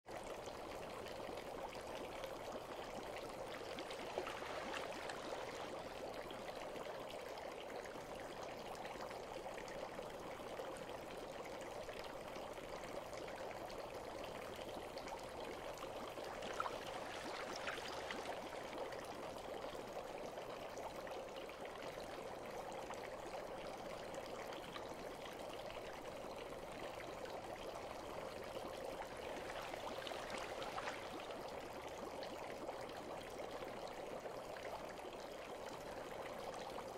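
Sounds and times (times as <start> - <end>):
water trickling into bath: 0.2 - 36.9.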